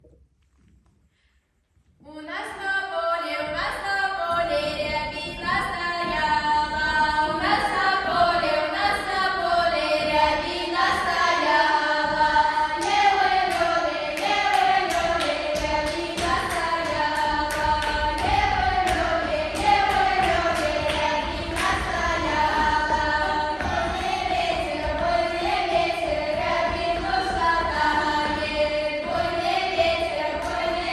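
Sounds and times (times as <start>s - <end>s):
women singing folk song in parts: 2.1s - 30.9s.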